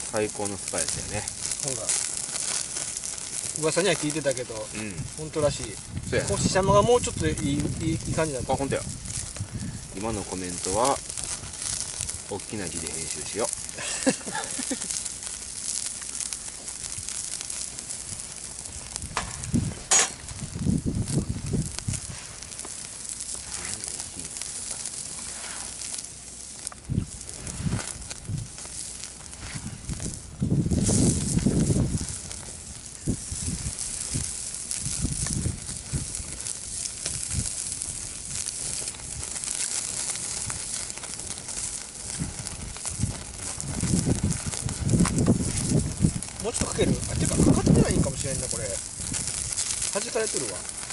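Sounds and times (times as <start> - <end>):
food sizzling on a grill: 0.0 - 50.9
wood fire crackling and popping: 0.0 - 50.9.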